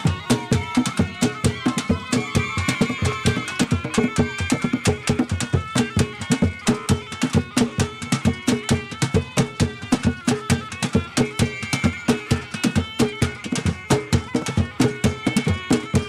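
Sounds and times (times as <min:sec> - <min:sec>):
fast drum rhythm: 0:00.0 - 0:16.0.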